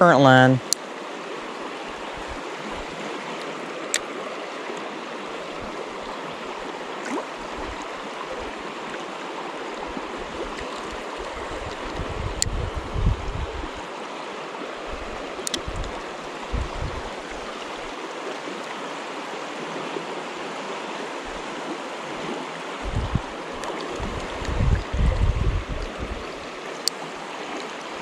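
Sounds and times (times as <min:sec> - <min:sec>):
river flowing: 0:00.0 - 0:28.0.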